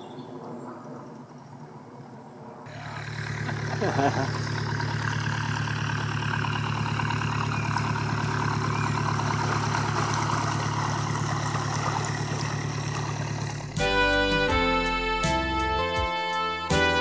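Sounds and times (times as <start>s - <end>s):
boat diesel engine humming: 2.7s - 17.0s.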